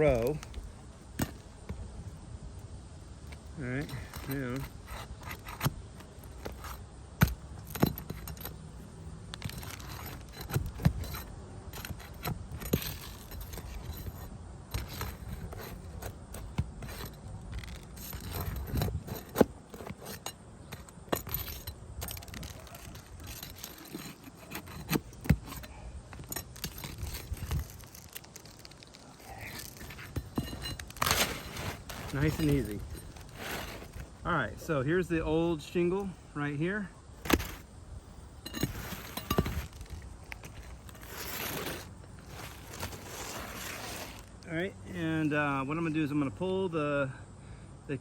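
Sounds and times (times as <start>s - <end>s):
tools clicking and scraping shingles: 0.0s - 1.9s, 3.2s - 34.2s, 37.2s - 37.7s, 38.4s - 44.5s.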